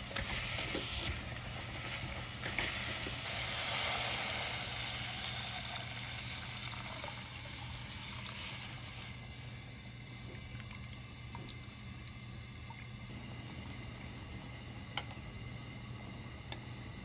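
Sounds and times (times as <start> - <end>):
gas burner hum: 0.0 - 17.0
soup boiling on a gas burner: 0.0 - 17.0.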